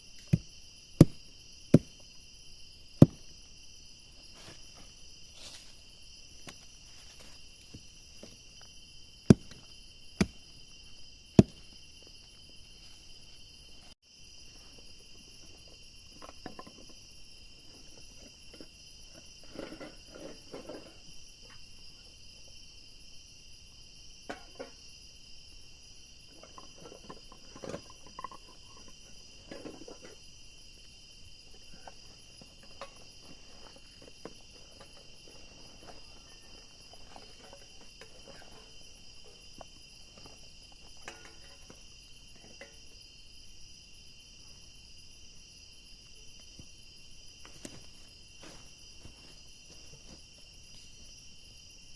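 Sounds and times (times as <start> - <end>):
crickets and insects trilling: 0.0 - 51.9.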